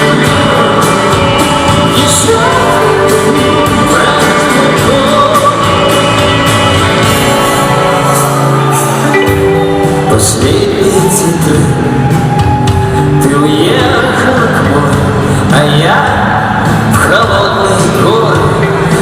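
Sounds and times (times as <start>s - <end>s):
man singing lead vocal: 0.0s - 19.0s
rock band playing live: 0.0s - 19.0s
steady drum beat: 0.0s - 19.0s.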